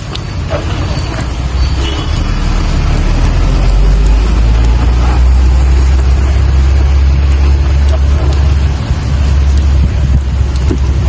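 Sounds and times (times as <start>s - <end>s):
deep rumble: 0.0s - 11.0s
raindrops ticking: 0.0s - 11.0s
steady rain falling: 0.0s - 11.0s.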